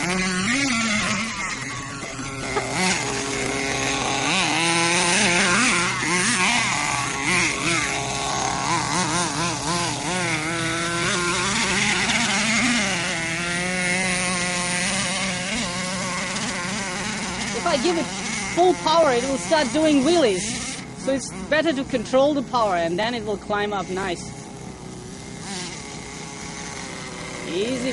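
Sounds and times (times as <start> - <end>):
rc truck nitro engine revving: 0.0 - 27.9.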